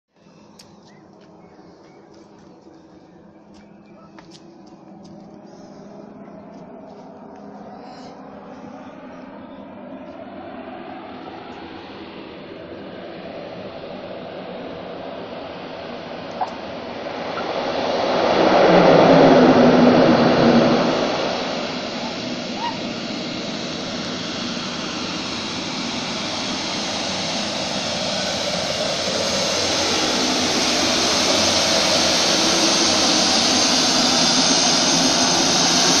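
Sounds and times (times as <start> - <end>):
turboprop plane engines: 0.1 - 36.0
high turbine whine: 0.2 - 36.0.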